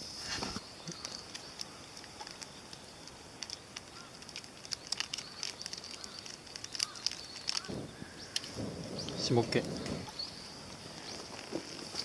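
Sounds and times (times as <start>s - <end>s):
campfire crackling: 0.0s - 12.0s
faint steady hiss: 0.0s - 12.0s.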